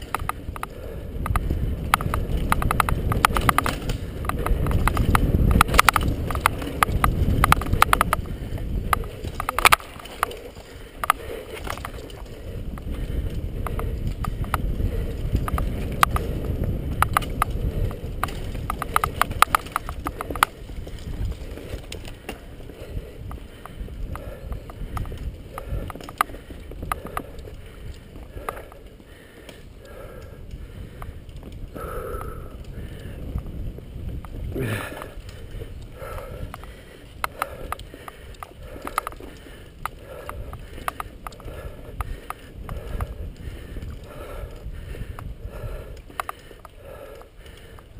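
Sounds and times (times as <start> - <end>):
bike and camera rattling: 0.0 - 47.9
tyres and air rumble: 0.0 - 47.9.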